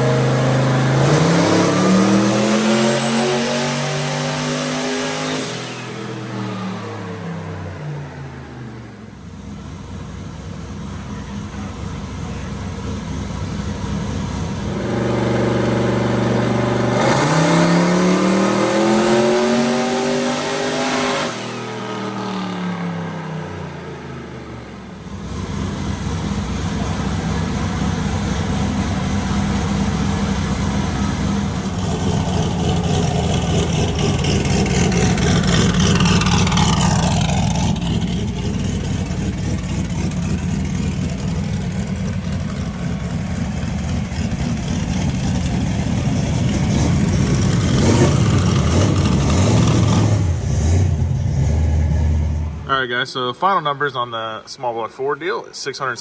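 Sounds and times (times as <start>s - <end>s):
pickup engine revving: 0.0s - 52.8s.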